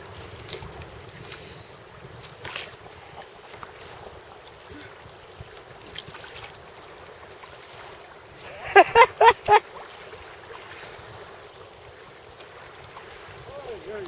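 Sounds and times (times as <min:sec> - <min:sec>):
wind and sea noise: 0:00.0 - 0:14.0.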